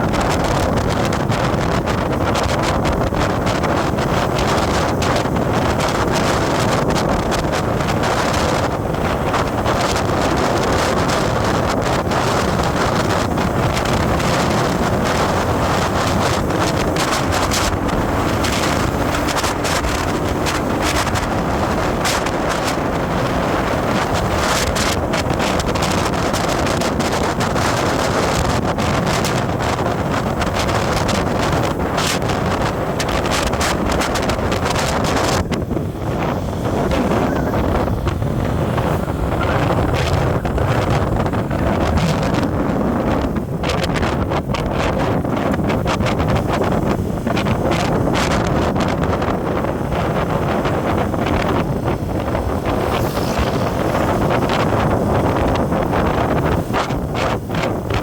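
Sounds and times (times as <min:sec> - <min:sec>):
vehicle travelling on road: 0:00.0 - 0:58.0
wind buffeting microphone: 0:00.0 - 0:58.0.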